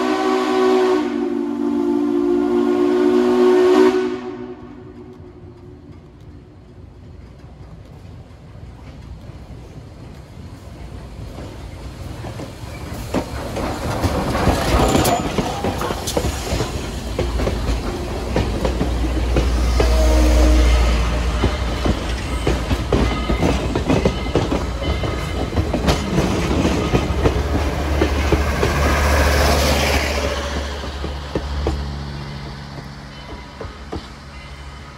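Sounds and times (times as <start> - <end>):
steam locomotive passing: 0.0 - 34.9
train cars rumbling: 0.0 - 34.9
wheels clickety-clack: 5.0 - 20.0, 21.1 - 34.6.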